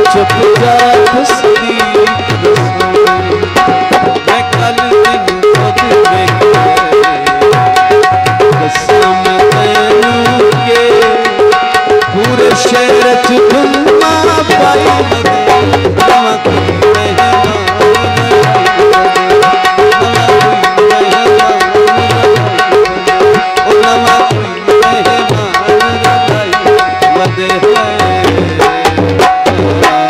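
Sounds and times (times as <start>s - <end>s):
hand drums beating: 0.0s - 30.0s
held melodic line: 0.0s - 30.0s.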